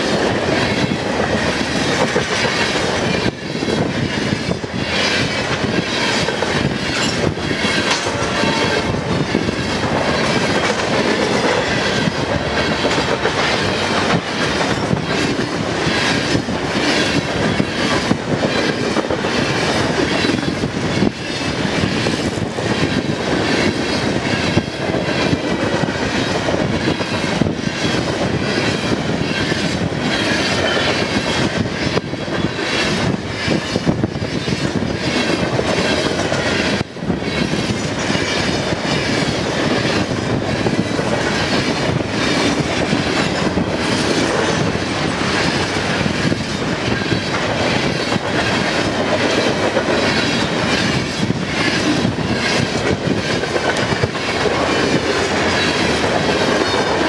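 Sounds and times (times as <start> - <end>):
freight train rumbling past: 0.0 - 57.0
wheels clickety-clack on rail joints: 0.0 - 57.0.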